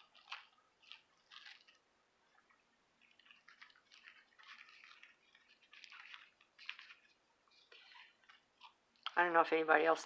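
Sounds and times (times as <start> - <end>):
paper tea bag crinkling: 0.0 - 9.6.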